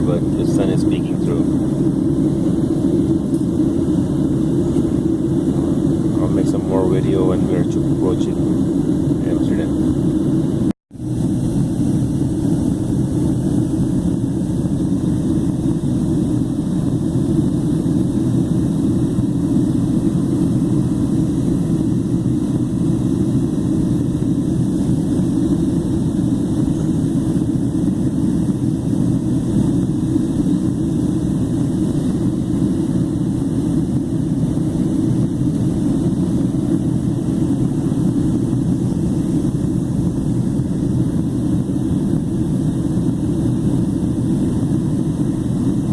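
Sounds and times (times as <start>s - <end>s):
jet engines roaring: 0.0s - 45.9s
rushing air: 0.0s - 45.9s.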